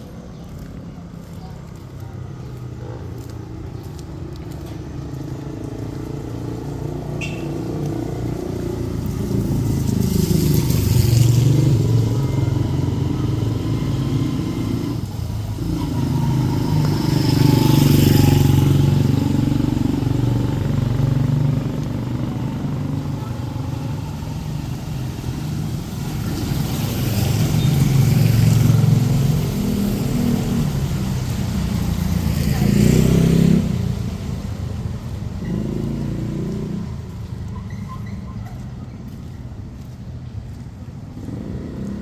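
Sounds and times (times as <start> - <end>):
motor vehicles passing: 0.0 - 42.0.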